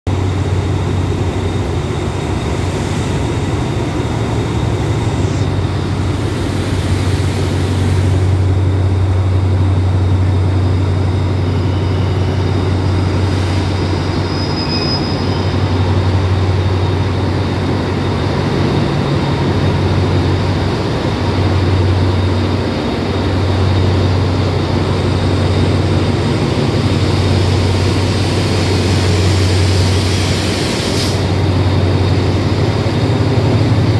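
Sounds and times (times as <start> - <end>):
diesel locomotive engine hum: 0.1 - 33.9.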